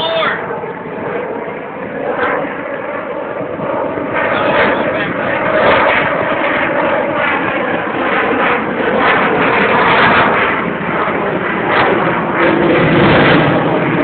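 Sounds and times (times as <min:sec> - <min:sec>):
fighter jet engines roaring: 0:00.0 - 0:14.0.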